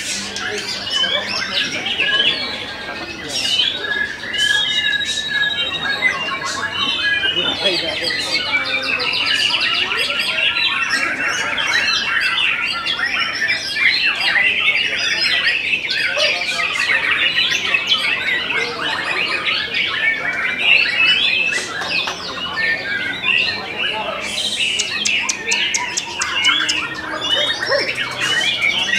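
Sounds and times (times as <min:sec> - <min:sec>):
songbirds singing and chirping: 0:00.0 - 0:28.9.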